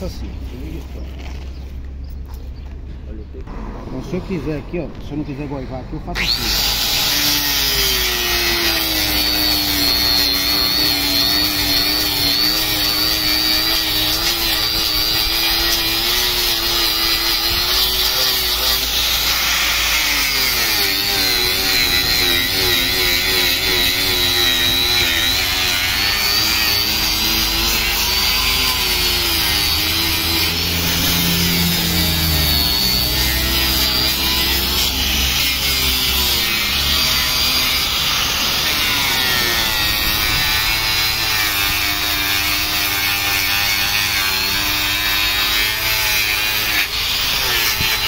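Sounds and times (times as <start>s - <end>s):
angle grinder grinding wood: 6.1s - 48.0s.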